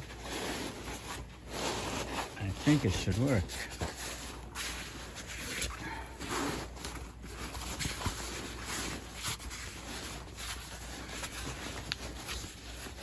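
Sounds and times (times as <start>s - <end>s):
fabric rustling and rubbing: 0.0s - 13.0s.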